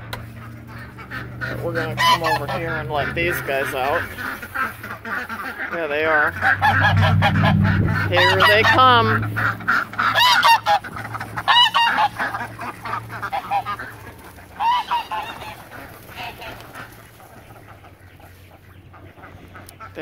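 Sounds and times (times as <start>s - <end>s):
steady low hum: 0.0s - 19.9s
ducks quacking: 0.0s - 20.0s.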